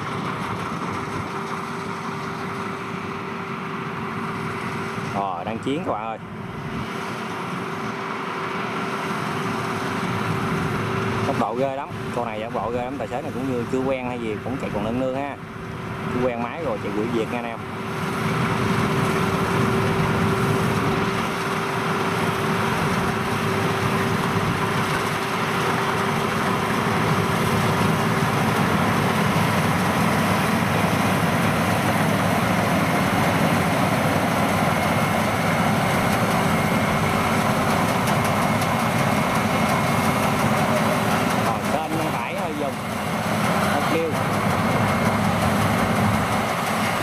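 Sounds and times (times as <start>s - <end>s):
combine harvester running: 0.0s - 47.0s.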